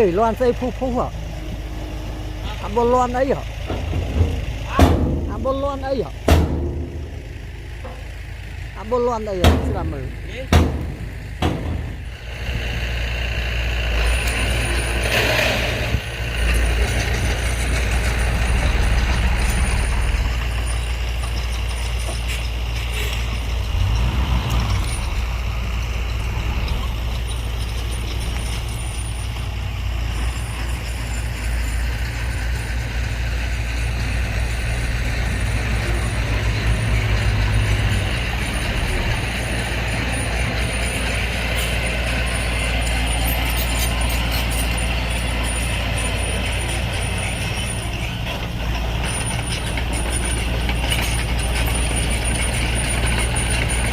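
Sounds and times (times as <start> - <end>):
diesel machinery engine rumble: 0.0 - 53.9.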